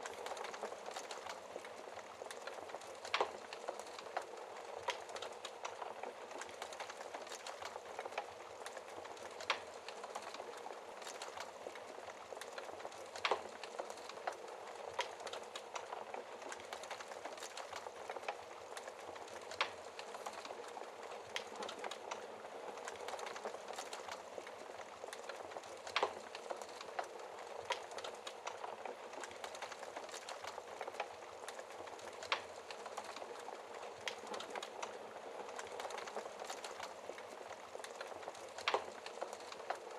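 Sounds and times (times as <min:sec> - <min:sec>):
fire popping: 0:00.0 - 0:39.9
logs burning and crackling: 0:00.0 - 0:39.9.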